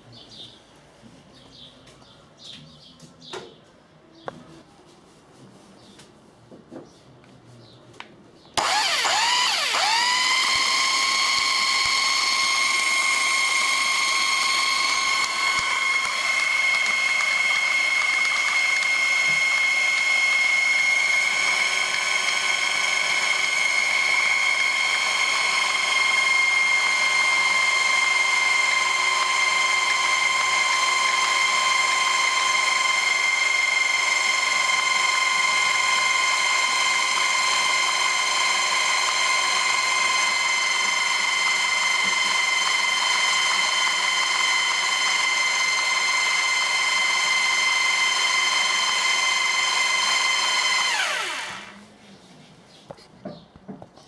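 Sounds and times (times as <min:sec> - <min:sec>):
power drill whining: 0:08.6 - 0:51.9.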